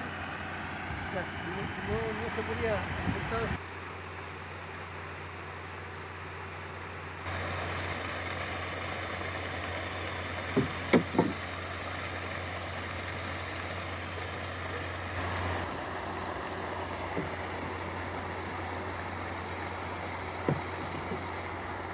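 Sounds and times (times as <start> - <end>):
paddles churning water: 0.0 - 3.6, 7.2 - 21.9
low motor hum: 0.0 - 21.9.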